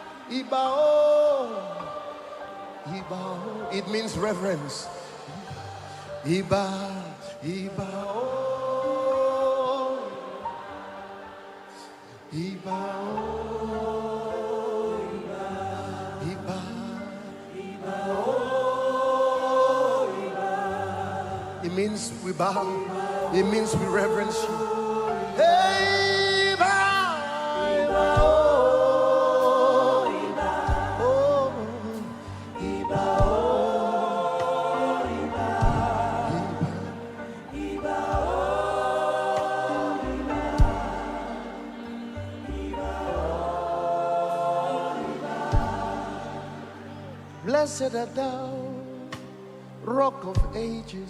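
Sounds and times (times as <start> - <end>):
voices chanting long notes: 0.0 - 49.8
gospel choir singing: 0.0 - 51.0
slow worship music: 0.0 - 51.0.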